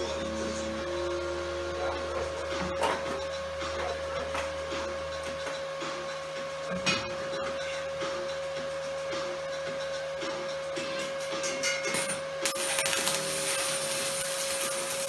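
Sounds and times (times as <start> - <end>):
welder electrical hum: 0.0 - 15.0.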